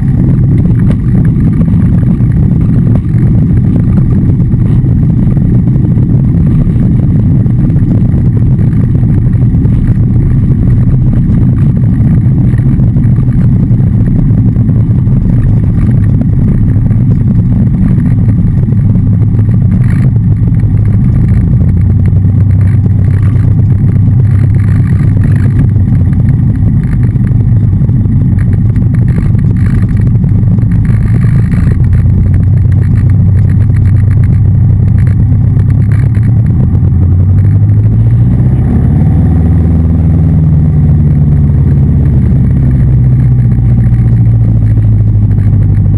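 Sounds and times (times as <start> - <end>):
aircraft engine and propeller drone: 0.0 - 45.9.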